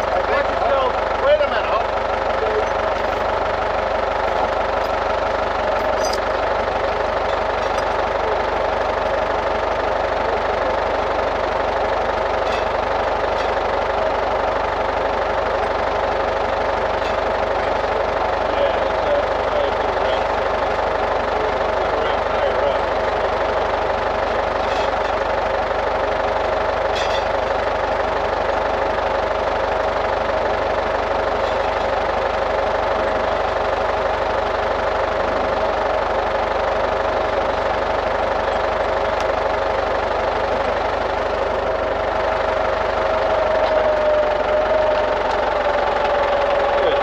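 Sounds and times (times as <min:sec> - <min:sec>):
steady whine: 0:00.0 - 0:47.0
tractor engine running: 0:00.0 - 0:47.0.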